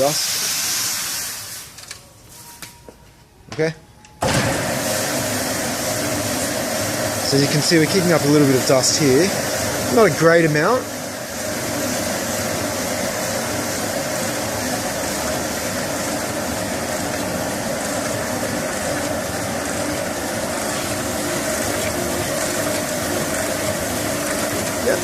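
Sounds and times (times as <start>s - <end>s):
powder mixer humming: 4.2s - 25.0s.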